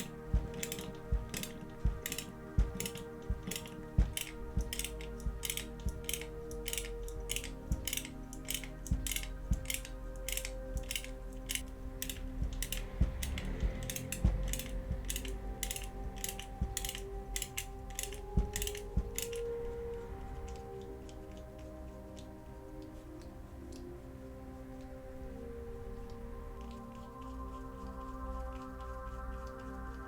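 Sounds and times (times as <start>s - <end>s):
background music with ticking beat: 0.0s - 30.0s.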